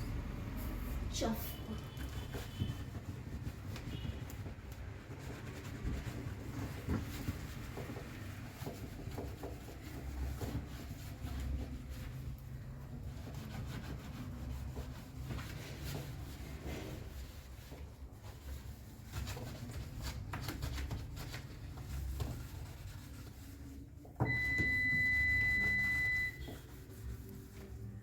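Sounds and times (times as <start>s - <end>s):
rubbing and scraping a surface: 0.1s - 28.0s.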